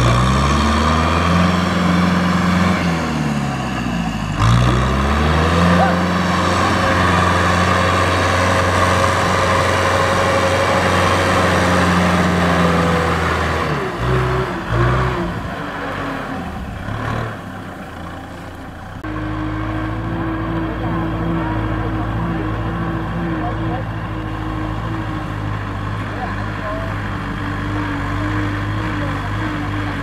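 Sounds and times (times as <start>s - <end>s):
different steady engine tone: 0.0s - 30.0s
tractor diesel engine under load: 0.0s - 30.0s.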